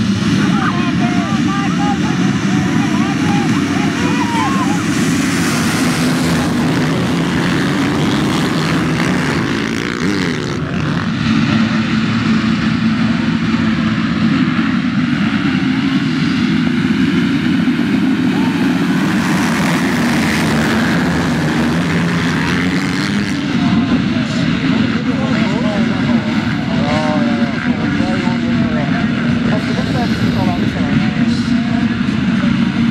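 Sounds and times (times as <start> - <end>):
motocross bike engines droning: 0.0 - 32.9.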